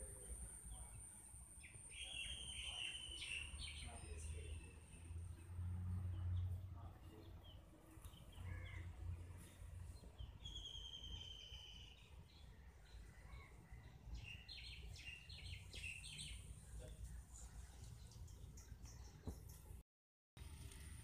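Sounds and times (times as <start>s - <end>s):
faint birdsong: 0.0s - 19.8s.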